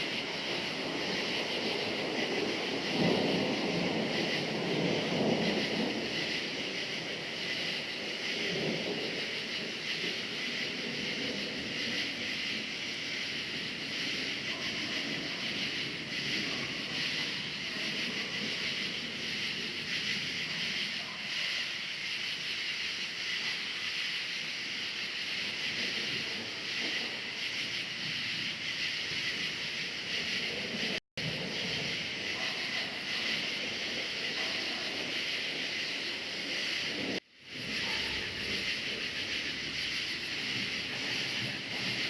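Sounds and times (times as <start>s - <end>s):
distant thunder rumbling: 0.0s - 21.0s, 25.1s - 42.0s
crickets chirping: 0.0s - 42.0s.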